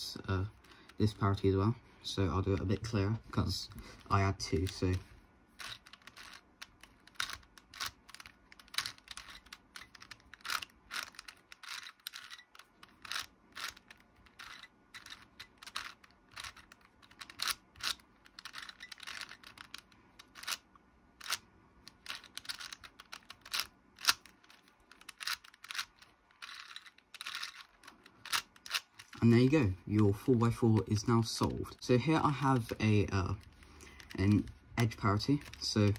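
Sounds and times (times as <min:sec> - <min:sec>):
puzzle cube plastic clicks: 0:03.7 - 0:29.2, 0:32.2 - 0:35.9.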